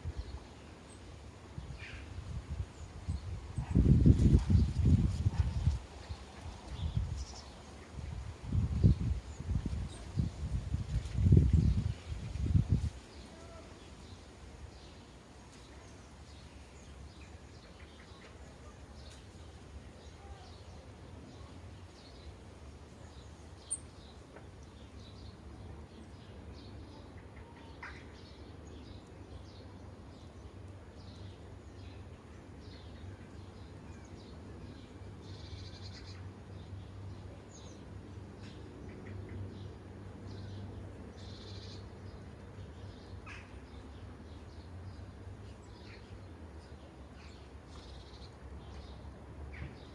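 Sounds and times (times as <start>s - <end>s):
sparrows chirping: 0.1s - 27.0s, 32.6s - 49.9s.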